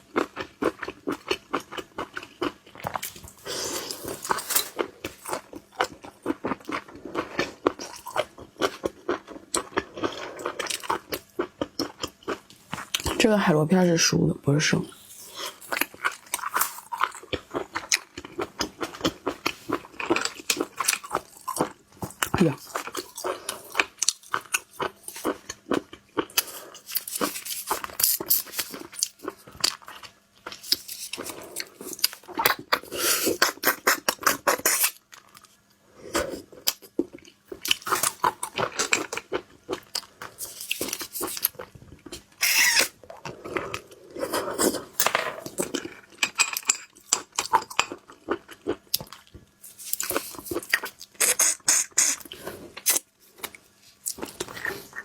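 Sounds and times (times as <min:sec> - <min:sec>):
wet chewing and crunching: 0:00.0 - 0:13.2, 0:15.1 - 0:55.0.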